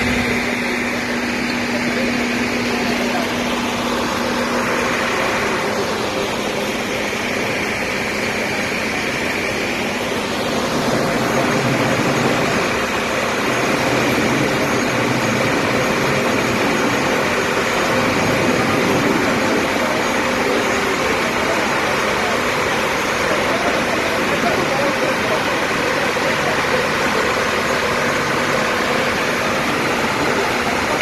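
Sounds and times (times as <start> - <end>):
fire truck engines rumbling: 0.0 - 31.0.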